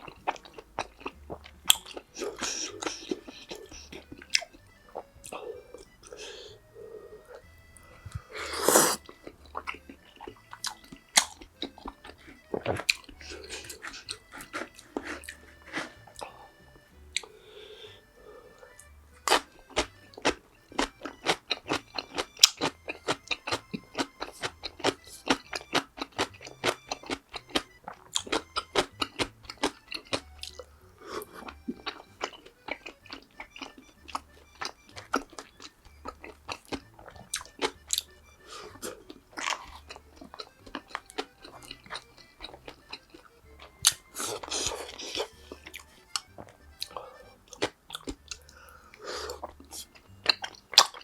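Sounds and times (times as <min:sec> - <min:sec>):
crunching and chewing crisp food: 0:00.0 - 0:51.0.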